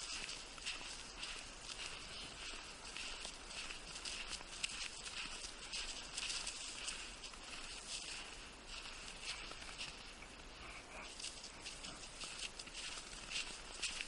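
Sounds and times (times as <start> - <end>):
footsteps crunching on snow: 0.0 - 14.0
soft hiss: 0.0 - 14.0.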